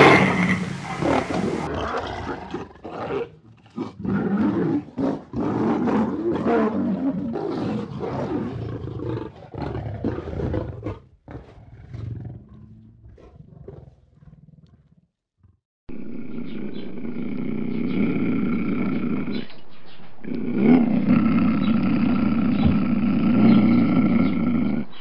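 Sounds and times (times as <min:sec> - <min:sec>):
lion roaring: 0:00.0 - 0:25.0.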